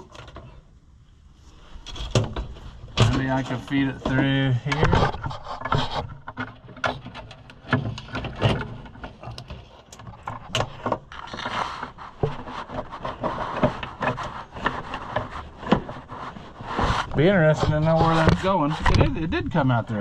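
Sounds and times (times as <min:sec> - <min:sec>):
cable scraping and rubbing: 0:01.6 - 0:20.0.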